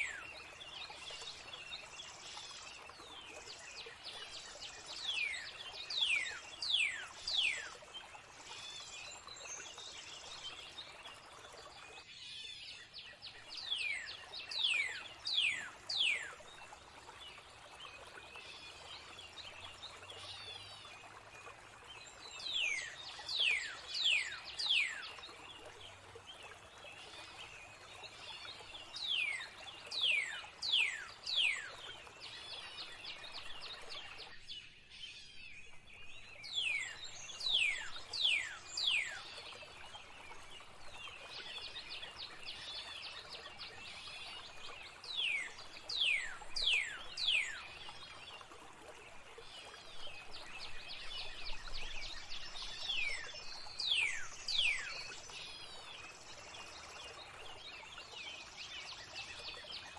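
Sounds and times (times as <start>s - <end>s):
birds chirping softly: 0.0s - 59.9s.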